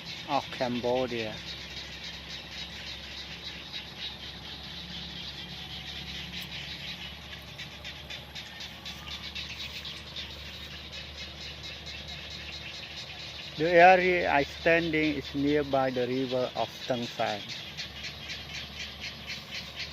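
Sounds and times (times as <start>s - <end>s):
frogs calling in a chorus: 0.0s - 19.9s
low steady hum: 0.0s - 19.9s.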